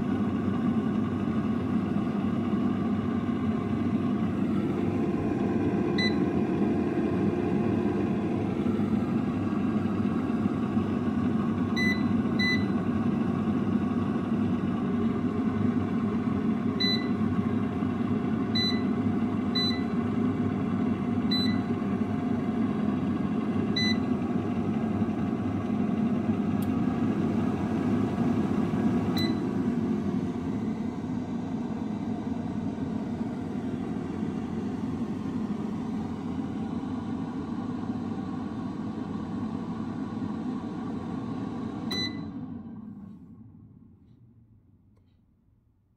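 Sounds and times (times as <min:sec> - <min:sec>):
air fryer whirring: 0:00.0 - 0:43.9.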